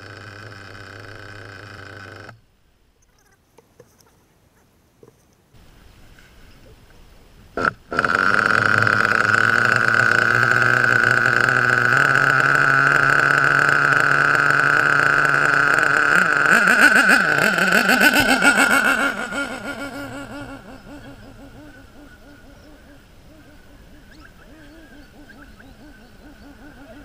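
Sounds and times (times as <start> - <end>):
model engine buzzing idle: 0.0 - 2.4, 7.6 - 27.0.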